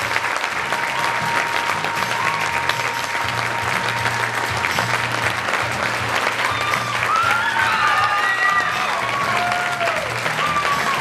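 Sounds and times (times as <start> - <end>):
audience applauding: 0.0 - 11.0
music with bass line: 0.0 - 11.0.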